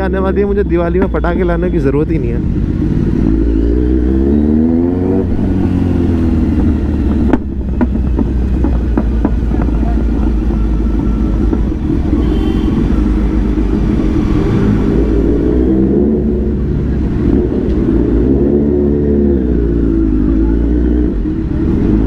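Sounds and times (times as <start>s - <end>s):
motorcycle engine revving: 2.4s - 22.0s.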